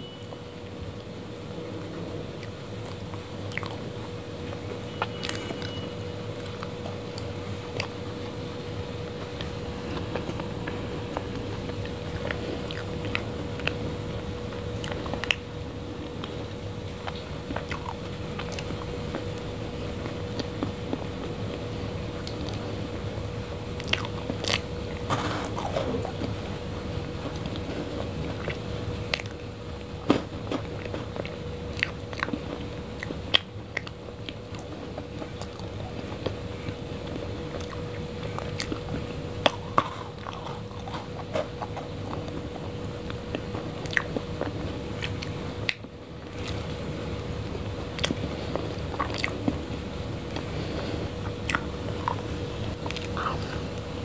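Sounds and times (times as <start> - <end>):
faint steady hum: 0.0 - 54.0
chewing and wet smacking: 1.8 - 21.6, 22.2 - 22.8, 23.8 - 46.9, 47.8 - 49.7, 50.3 - 53.9.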